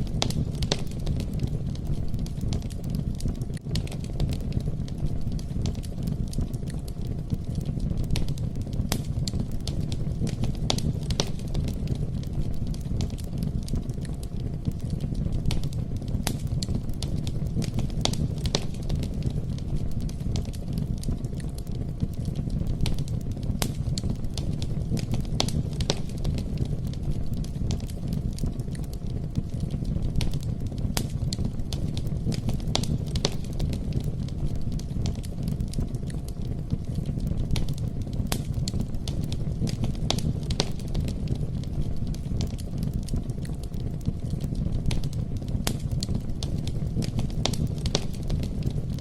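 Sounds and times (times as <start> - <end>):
wood fire crackling and popping: 0.0 - 49.0.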